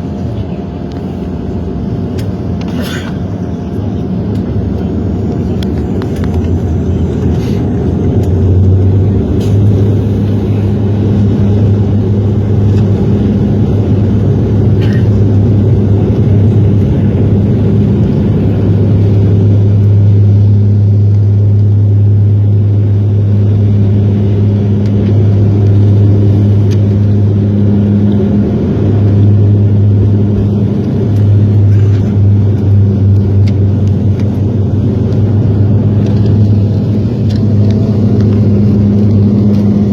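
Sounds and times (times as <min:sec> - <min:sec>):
propeller drone in aircraft cabin: 0:00.0 - 0:39.9.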